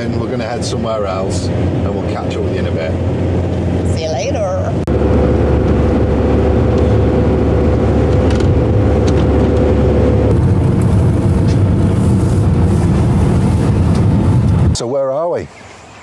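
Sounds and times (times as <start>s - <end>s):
van engine and road rumble: 0.0s - 16.0s
steady hum: 0.1s - 14.8s.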